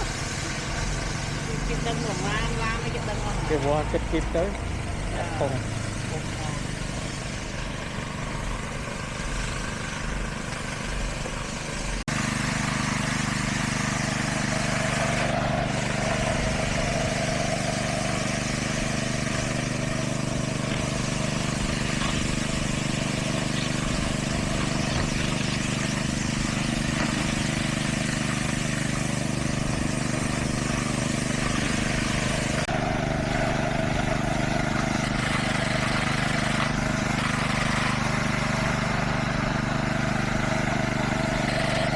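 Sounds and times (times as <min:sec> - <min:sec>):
construction machinery engine running: 0:00.0 - 0:41.9.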